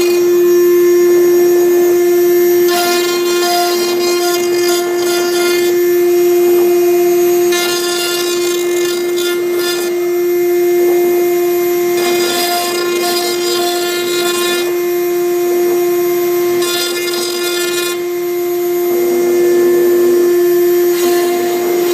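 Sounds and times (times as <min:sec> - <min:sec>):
router spindle whine: 0:00.0 - 0:21.9.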